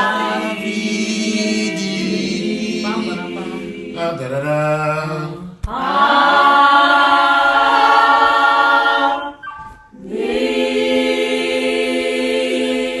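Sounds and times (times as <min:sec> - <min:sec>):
youth choir singing a cappella: 0:00.0 - 0:13.0.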